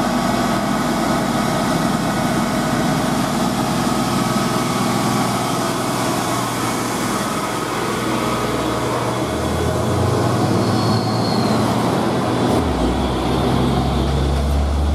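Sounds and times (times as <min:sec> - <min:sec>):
truck diesel engine under load: 0:00.0 - 0:14.9
tyres on road: 0:00.0 - 0:14.9.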